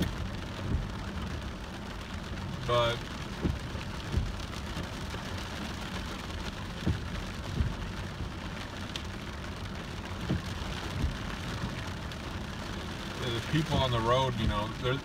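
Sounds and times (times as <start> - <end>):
rain pattering on car roof: 0.0 - 15.0.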